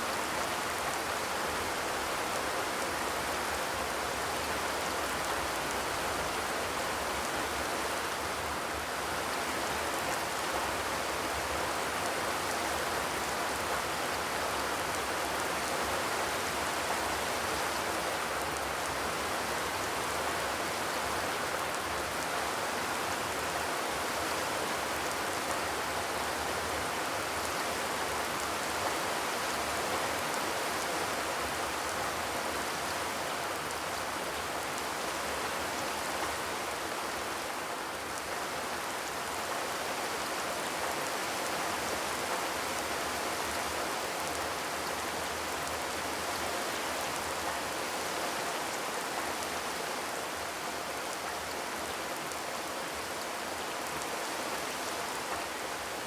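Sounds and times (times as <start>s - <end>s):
rain on a metal roof: 0.0s - 56.0s.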